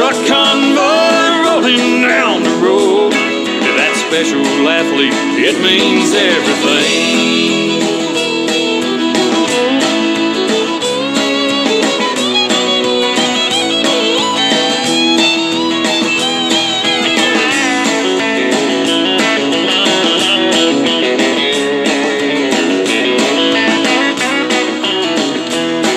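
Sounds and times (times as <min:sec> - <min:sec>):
country song with guitars: 0:00.0 - 0:25.9.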